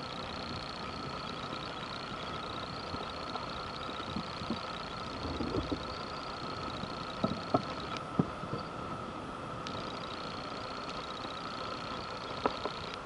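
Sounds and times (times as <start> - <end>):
mechanical hum with fast ticking: 0.0 - 13.0.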